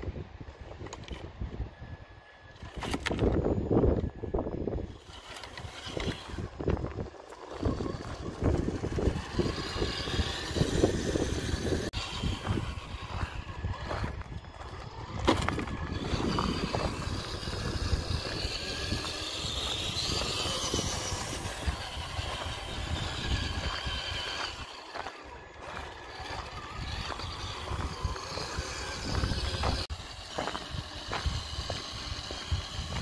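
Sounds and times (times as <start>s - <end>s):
wind rumbling on microphone: 0.0s - 33.0s
electric toy car drivetrain whirring: 0.6s - 33.0s.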